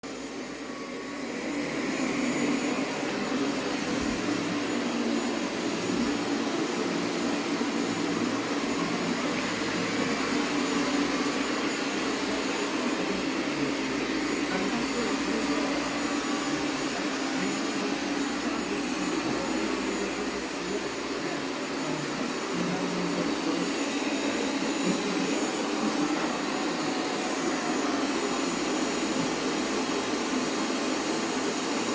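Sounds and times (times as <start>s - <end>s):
robot vacuum cleaner whirring: 0.1s - 31.9s.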